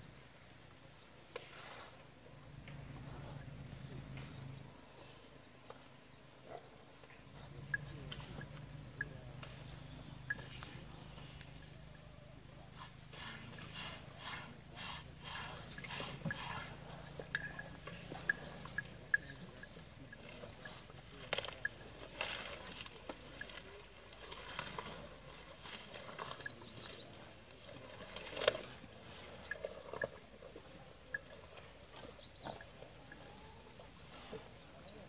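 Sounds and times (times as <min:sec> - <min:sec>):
rustles: 0:00.0 - 0:35.0.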